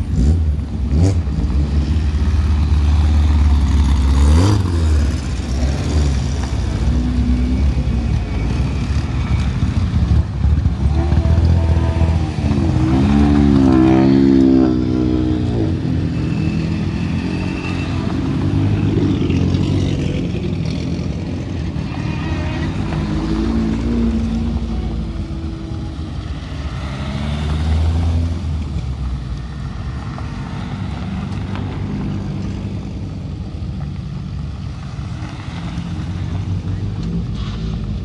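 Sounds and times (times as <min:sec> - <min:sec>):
rally car engines passing: 0:00.0 - 0:38.0.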